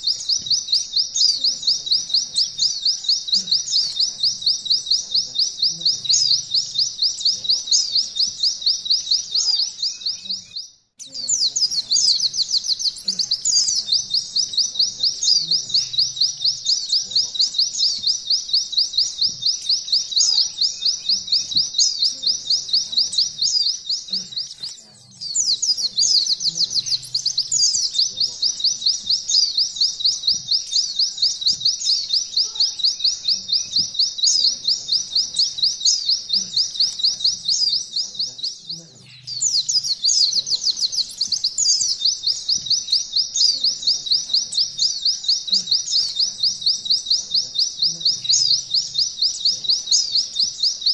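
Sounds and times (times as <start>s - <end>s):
bird singing rapid trill: 0.0s - 50.9s.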